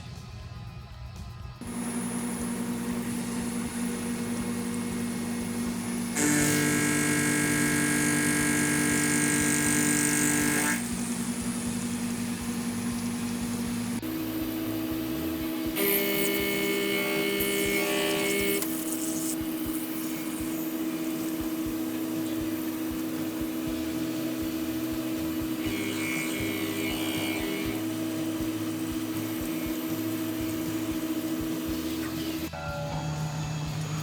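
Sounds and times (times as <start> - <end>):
cutting noise and hiss: 1.6 - 32.5
mill whining: 1.6 - 34.0.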